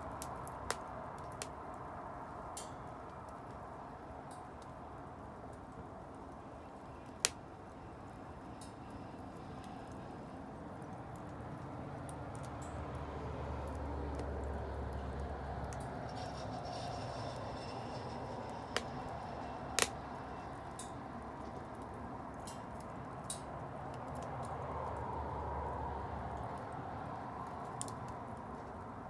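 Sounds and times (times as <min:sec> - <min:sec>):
fire popping and crackling: 0:00.0 - 0:25.2
bonfire flames rushing: 0:00.0 - 0:29.0.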